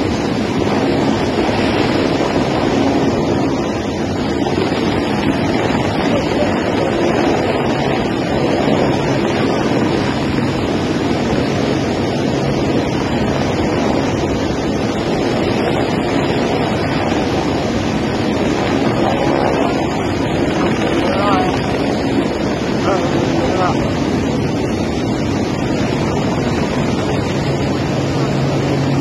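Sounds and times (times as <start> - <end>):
floodwater rushing: 0.0 - 29.0
helicopter hovering: 0.0 - 29.0
rotor wash buffeting microphone: 0.0 - 29.0.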